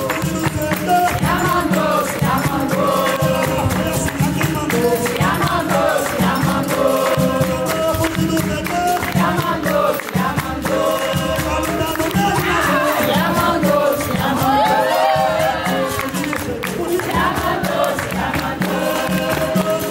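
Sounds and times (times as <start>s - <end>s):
group singing chorus: 0.0s - 19.9s
hand drum rhythm: 0.0s - 19.9s
people clapping: 0.0s - 19.9s.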